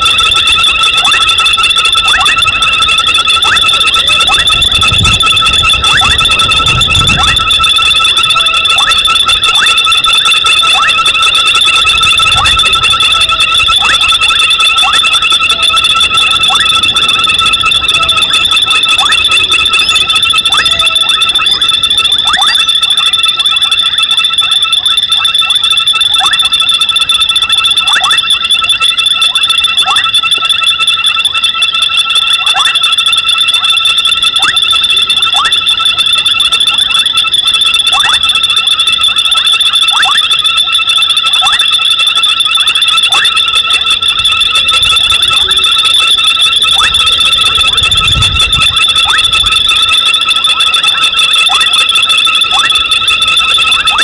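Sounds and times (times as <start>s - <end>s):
frogs trilling: 0.0s - 54.0s.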